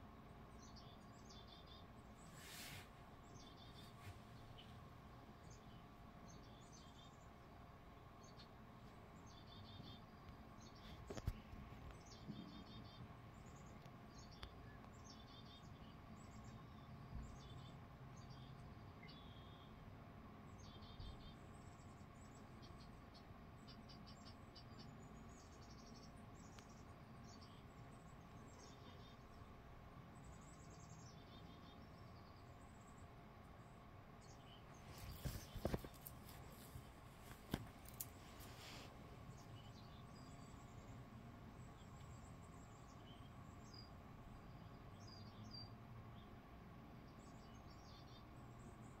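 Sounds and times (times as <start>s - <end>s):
low steady hum: 0.0s - 49.0s
bird chirps and trills on tv: 0.5s - 2.5s, 3.2s - 7.6s, 9.2s - 19.8s, 20.5s - 49.0s.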